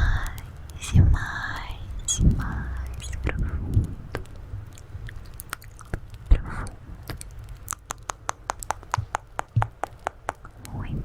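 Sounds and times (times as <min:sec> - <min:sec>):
wet tongue and lip clicks: 0:00.0 - 0:11.0.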